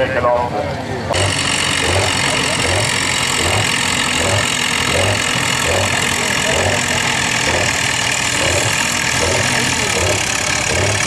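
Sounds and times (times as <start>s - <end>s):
tractor engine running under load: 0.4s - 11.0s.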